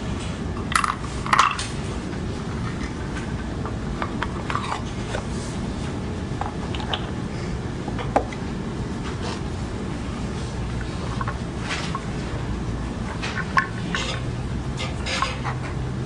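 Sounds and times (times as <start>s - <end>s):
low hiss and rumble: 0.0s - 16.0s.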